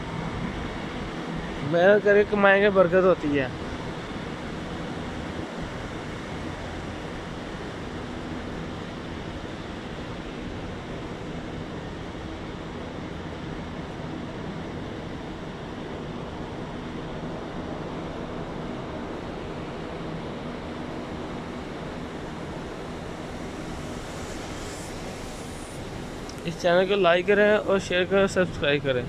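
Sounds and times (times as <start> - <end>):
outdoor background rush: 0.0 - 29.0.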